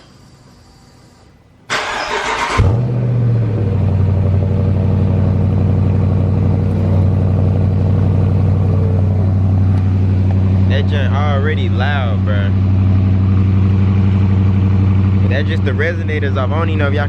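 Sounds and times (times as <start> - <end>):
engine fast idling: 1.7 - 17.0.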